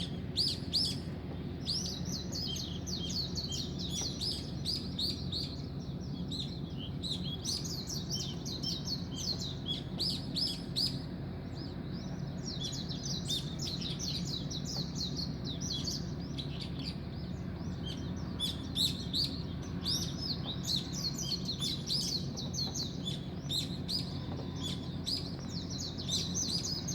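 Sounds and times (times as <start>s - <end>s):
small birds chirping: 0.0s - 26.9s
steady low hum: 0.0s - 26.9s.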